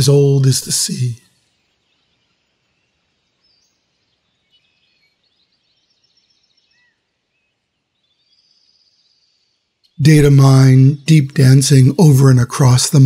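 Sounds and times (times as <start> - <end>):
faint high bird chirps: 0.0 - 11.8.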